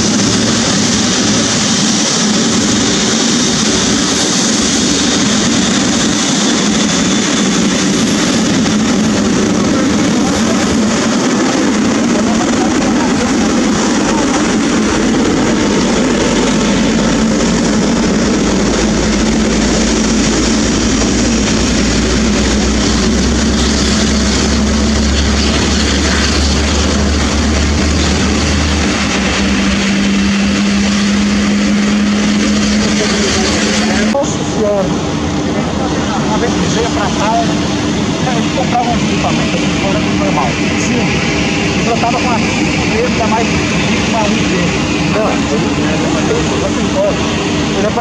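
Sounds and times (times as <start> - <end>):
jet engine roar: 0.0 - 48.0.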